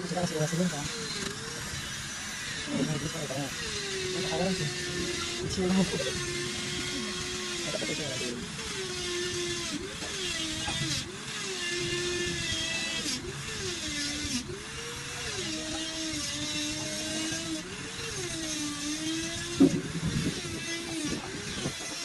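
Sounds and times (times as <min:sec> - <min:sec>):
motor whining: 0:00.0 - 0:22.0.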